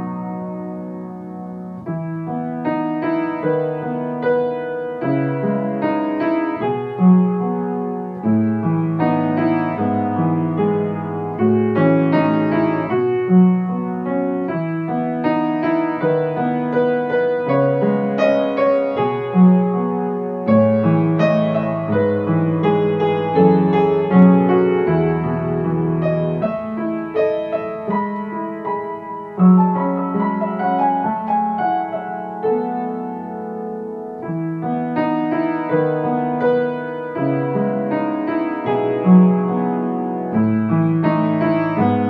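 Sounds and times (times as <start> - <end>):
slow gentle piano music: 0.0 - 42.0.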